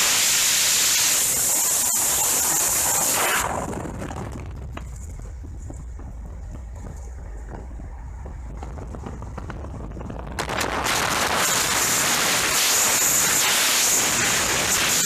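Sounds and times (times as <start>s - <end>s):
car driving: 2.2s - 15.0s.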